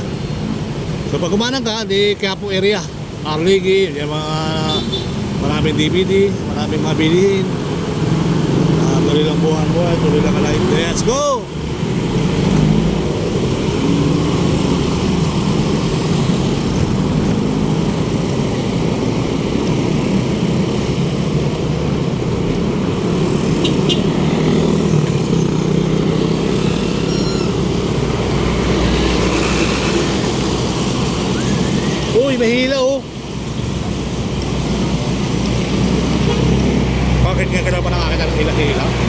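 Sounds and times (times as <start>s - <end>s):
city street traffic: 0.0s - 39.0s.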